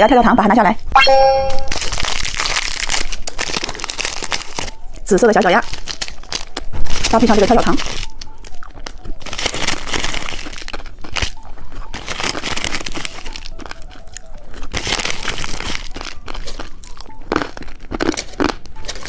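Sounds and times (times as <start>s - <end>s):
candy crunching: 1.2s - 19.0s
popping candy crackling: 1.4s - 19.0s.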